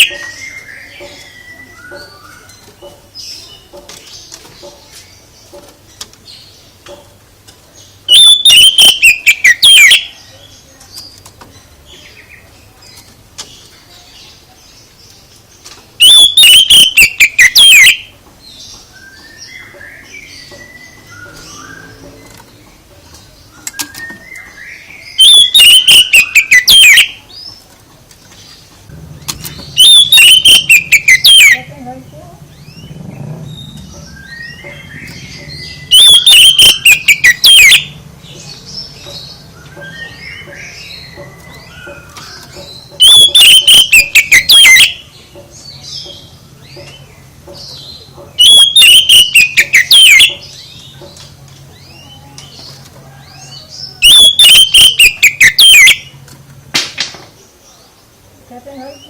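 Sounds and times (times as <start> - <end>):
soft bird chirps: 0.0 - 56.2
songbird song descending runs: 0.0 - 56.5.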